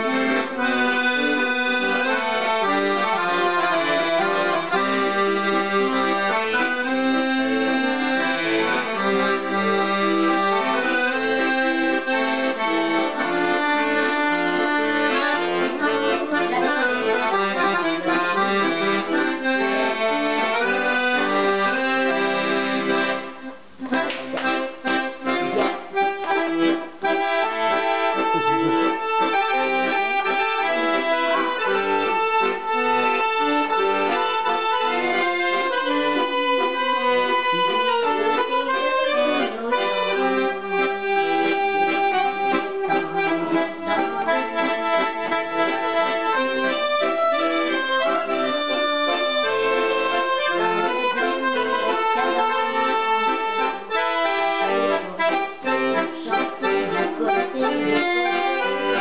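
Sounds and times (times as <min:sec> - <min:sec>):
piano accordion playing a tune: 0:00.0 - 0:59.0.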